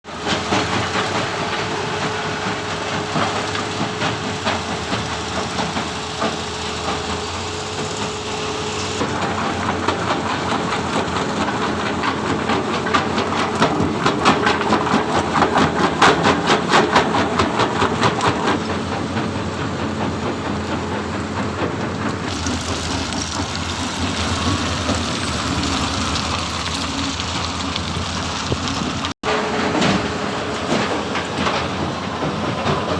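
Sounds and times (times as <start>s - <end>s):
rapid machine clatter: 0.1s - 30.0s
stone crusher and excavator running: 0.1s - 32.9s.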